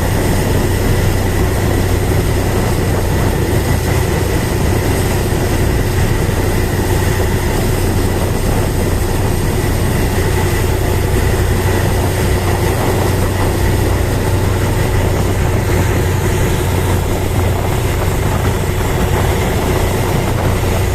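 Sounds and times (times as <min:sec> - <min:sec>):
ship diesel engine droning: 0:00.0 - 0:20.9.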